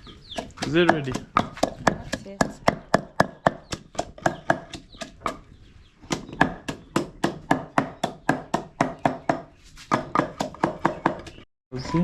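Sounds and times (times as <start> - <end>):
wooden pestle pounding in mortar: 0.3 - 5.5, 6.1 - 11.4.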